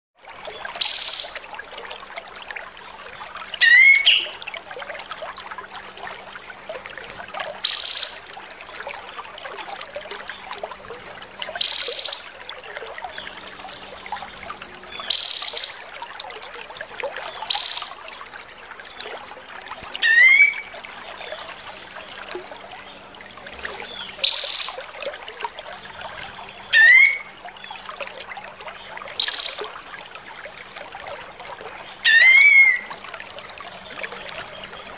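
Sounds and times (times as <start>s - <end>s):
steady trickling hiss: 0.2s - 34.9s.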